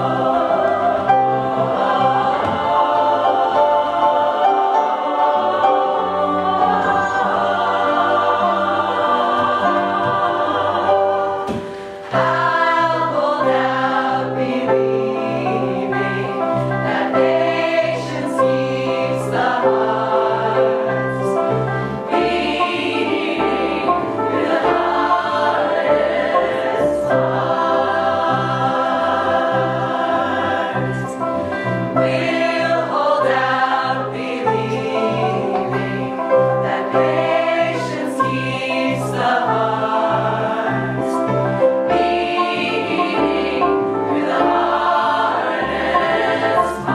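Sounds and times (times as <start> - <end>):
choir singing in harmony: 0.0 - 46.9.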